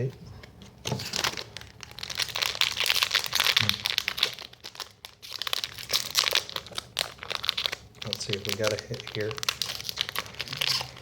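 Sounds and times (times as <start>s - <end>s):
foil wrapper crinkling: 1.0s - 11.0s.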